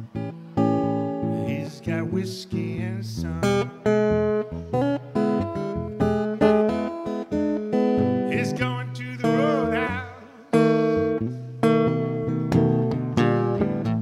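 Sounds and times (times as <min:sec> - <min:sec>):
acoustic guitar strumming blues: 0:00.0 - 0:14.0.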